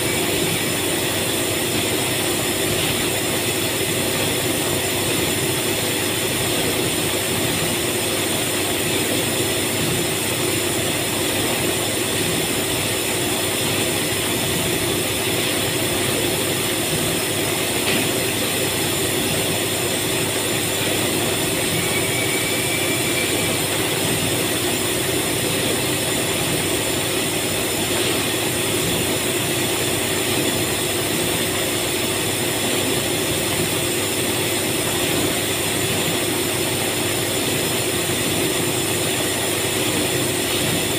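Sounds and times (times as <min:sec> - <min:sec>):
industrial machinery humming: 0:00.0 - 0:40.9.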